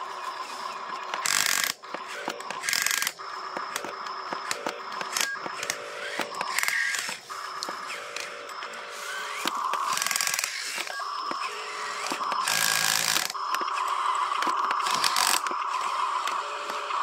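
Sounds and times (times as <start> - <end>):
small electric motor whirring: 0.0 - 17.0.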